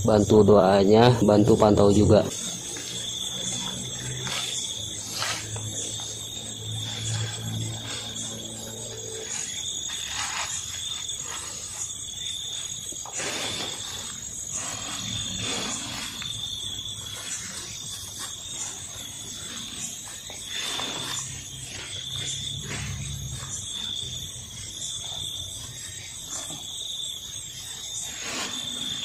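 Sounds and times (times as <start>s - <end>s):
night insects trilling: 0.0s - 29.0s.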